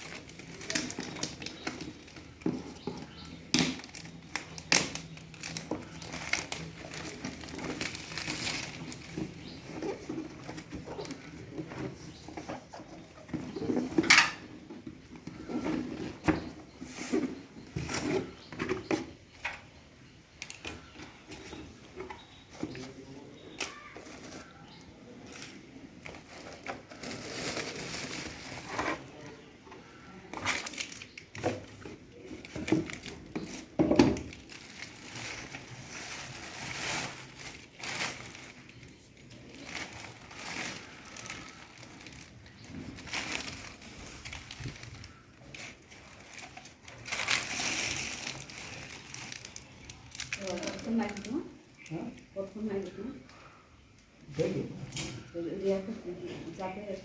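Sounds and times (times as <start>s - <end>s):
crinkling and rustling: 0.0s - 57.0s.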